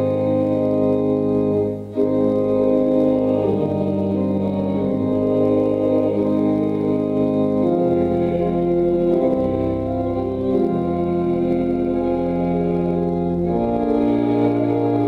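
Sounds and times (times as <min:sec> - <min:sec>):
church organ playing hymn chords: 0:00.0 - 0:15.0.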